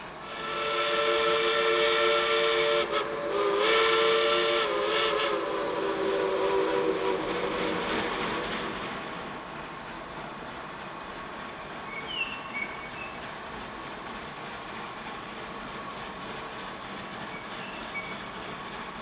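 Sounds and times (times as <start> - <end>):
steam locomotive chime whistle: 0.0 - 9.6, 11.6 - 19.0.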